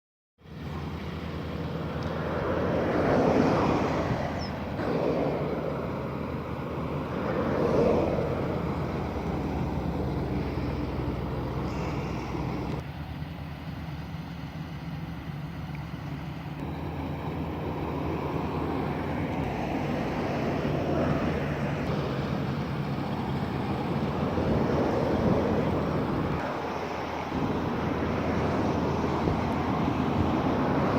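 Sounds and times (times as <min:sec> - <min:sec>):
harvesting machine engine running: 0:00.4 - 0:30.9.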